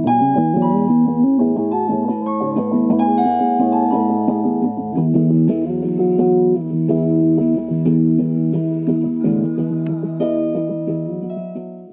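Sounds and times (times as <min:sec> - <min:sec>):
electric guitar chords: 0:00.0 - 0:11.9.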